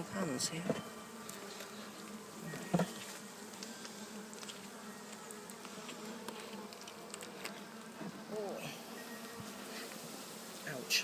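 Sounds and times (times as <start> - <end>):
honeybees humming: 0.0 - 11.0.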